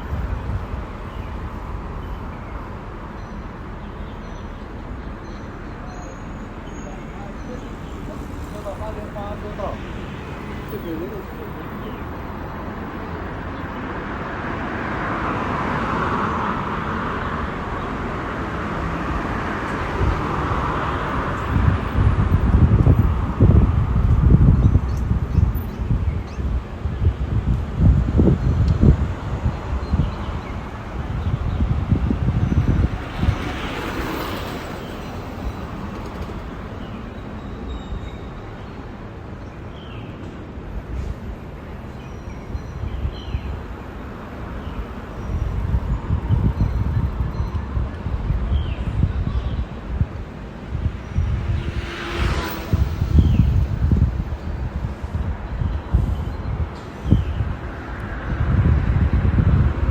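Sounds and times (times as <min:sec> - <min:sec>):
wind buffeting microphone: 0:00.0 - 0:03.1, 0:06.5 - 0:41.6, 0:42.2 - 0:59.9
passing vehicle: 0:04.8 - 0:39.4, 0:42.8 - 0:59.9.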